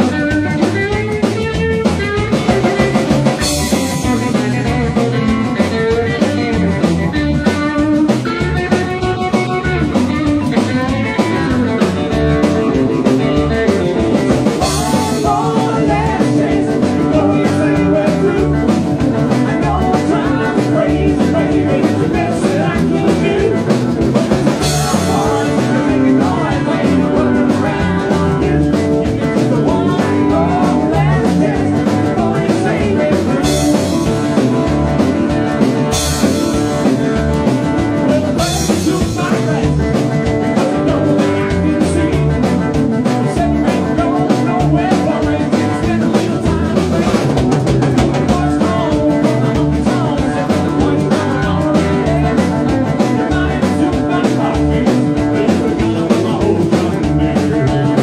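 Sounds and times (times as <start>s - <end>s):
rock and roll band playing: 0.0s - 58.0s.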